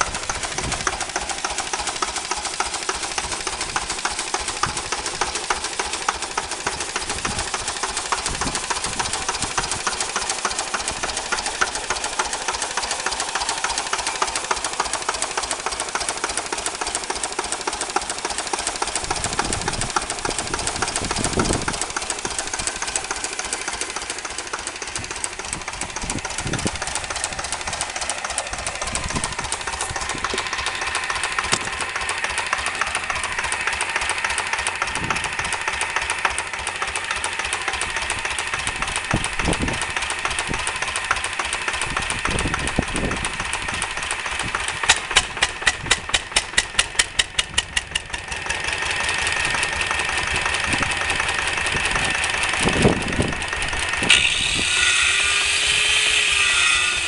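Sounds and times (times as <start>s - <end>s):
stationary diesel engine running: 0.0s - 57.0s.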